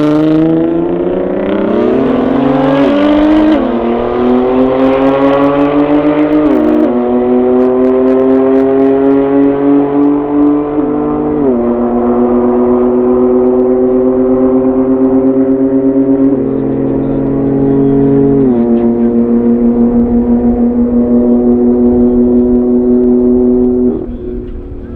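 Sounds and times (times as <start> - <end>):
car engine accelerating: 0.0 - 24.9.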